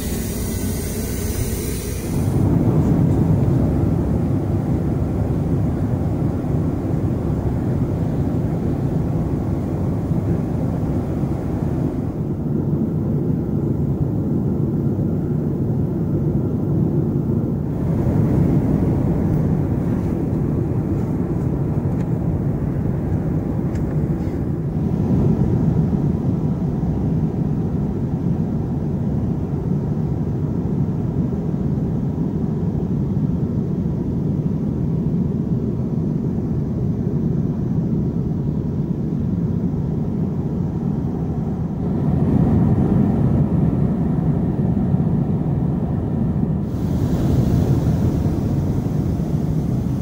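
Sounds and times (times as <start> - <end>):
jet engine rumble in cabin: 0.0 - 50.0.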